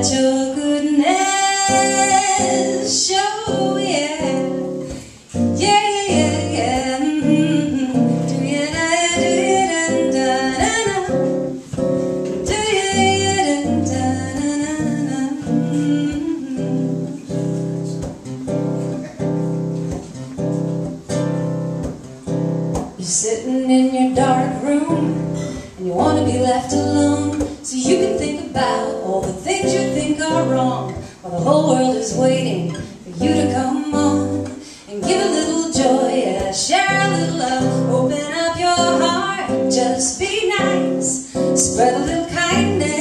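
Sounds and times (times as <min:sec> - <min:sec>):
woman singing: 0:00.0 - 0:18.6, 0:22.8 - 0:43.0
acoustic guitar: 0:00.0 - 0:43.0.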